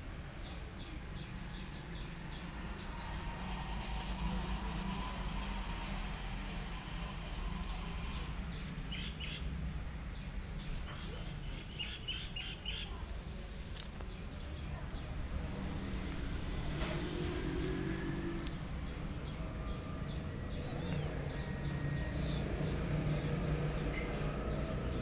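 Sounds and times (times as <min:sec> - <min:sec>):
low outdoor rumble: 0:00.0 - 0:25.0
small birds chirping: 0:00.3 - 0:25.0.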